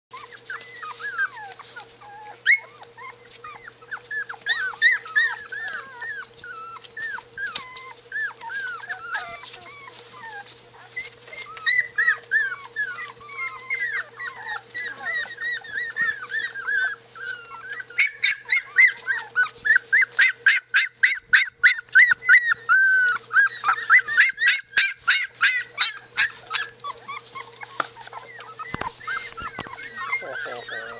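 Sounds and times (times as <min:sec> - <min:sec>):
puppies whining and squeaking: 0:00.1 - 0:30.9
puppies yipping: 0:00.1 - 0:30.9.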